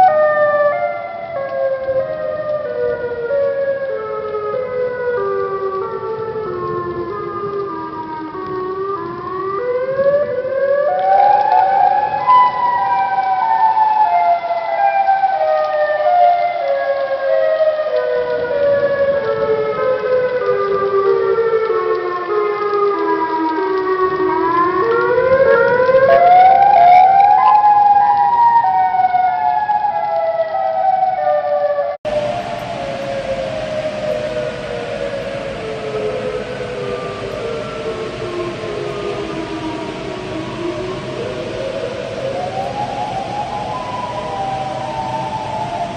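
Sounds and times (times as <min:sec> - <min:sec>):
warning siren wailing: 0:00.0 - 0:45.9.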